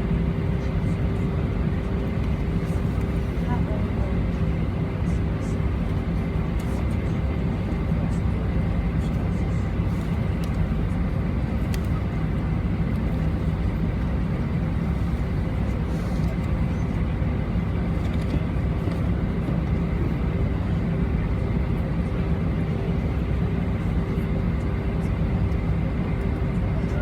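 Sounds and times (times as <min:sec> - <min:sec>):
jet engine cabin drone: 0:00.0 - 0:27.0.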